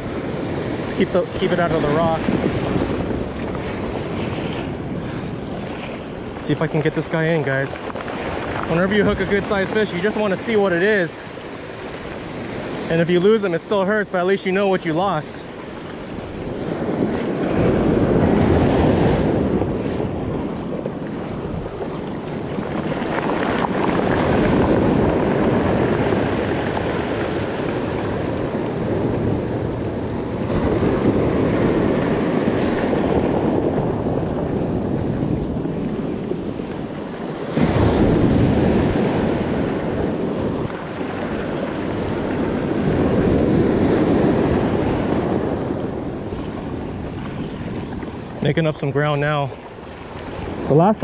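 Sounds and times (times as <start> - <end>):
ocean surf breaking: 0.0 - 51.0
wind buffeting microphone: 0.0 - 51.0.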